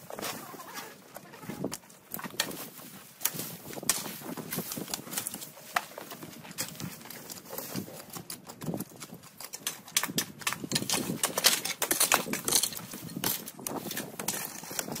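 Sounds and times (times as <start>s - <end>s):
dry brush crackling and rustling: 0.0s - 15.0s
raking clicks and scrapes: 0.0s - 15.0s.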